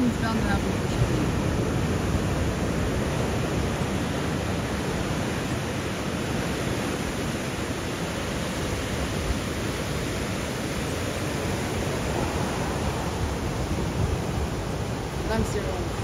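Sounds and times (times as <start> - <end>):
waves breaking: 0.0 - 16.0.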